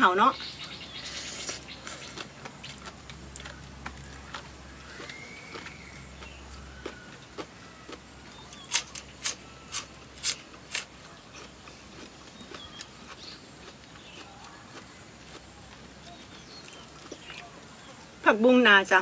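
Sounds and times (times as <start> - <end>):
crunchy food being chewed: 0.6 - 18.2.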